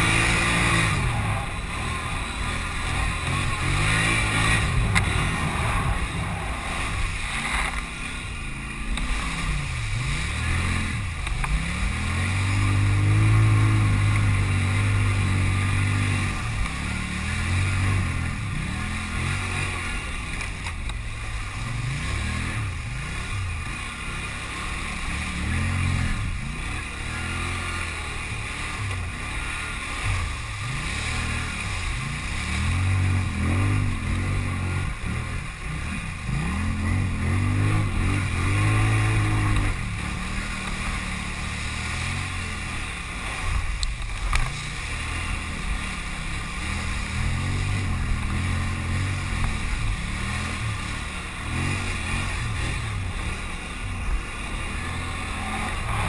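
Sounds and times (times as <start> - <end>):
atv engine revving: 0.0 - 56.0
water splashing: 0.0 - 56.0.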